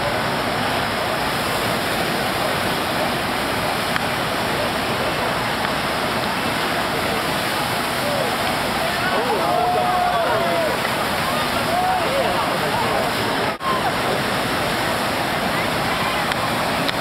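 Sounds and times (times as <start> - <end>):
wave machine water roaring: 0.0 - 17.0.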